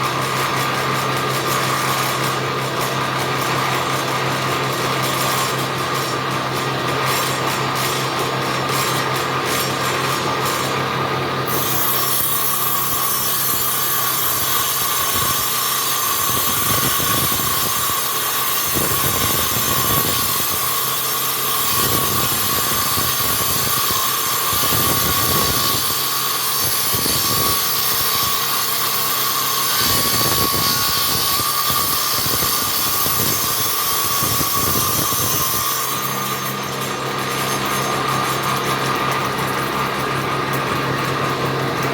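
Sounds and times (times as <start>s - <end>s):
electric power tool whining: 0.0s - 41.9s
tool cutting wood: 0.0s - 41.9s.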